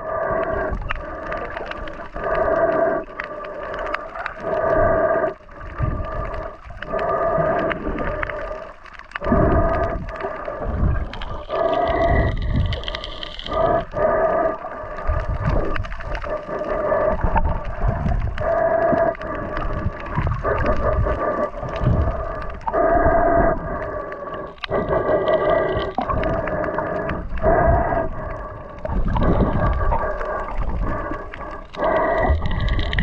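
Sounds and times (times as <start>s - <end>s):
water sloshing underwater: 0.0s - 33.0s.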